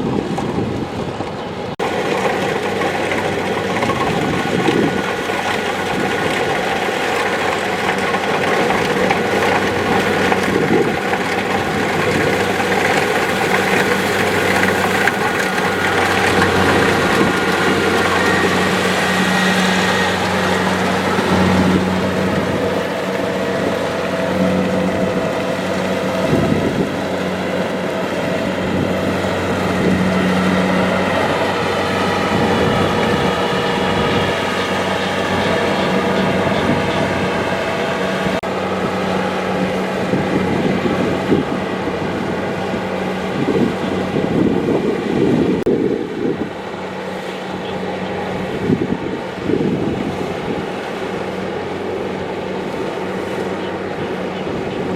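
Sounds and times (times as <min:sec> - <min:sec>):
cutting and threshing machinery: 0:00.0 - 0:54.9
diesel engine droning: 0:00.0 - 0:54.9.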